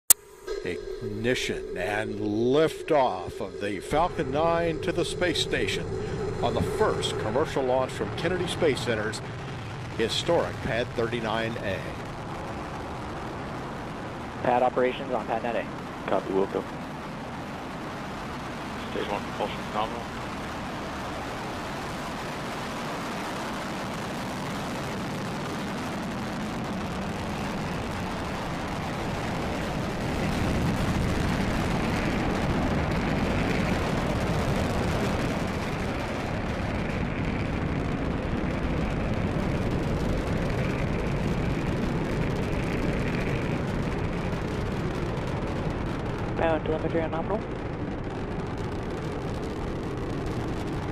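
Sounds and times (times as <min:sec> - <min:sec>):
rocket engines roaring: 0:00.1 - 0:50.9.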